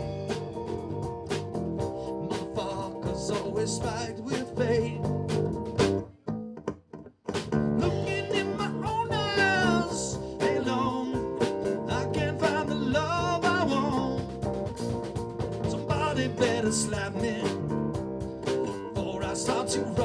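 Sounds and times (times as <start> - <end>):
band playing instrumental music: 0.0 - 6.2, 7.3 - 20.0
guitar: 0.0 - 20.0.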